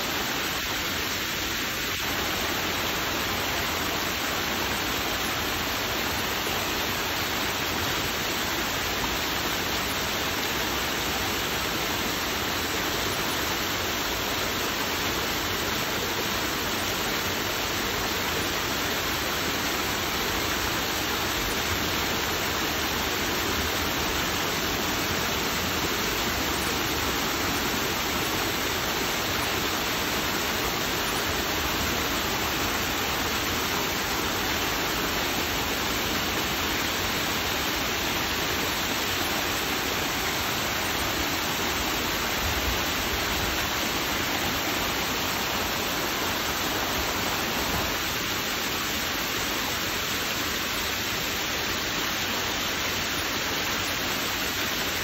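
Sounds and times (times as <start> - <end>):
waterfall cascading over rocks: 0.0 - 55.0.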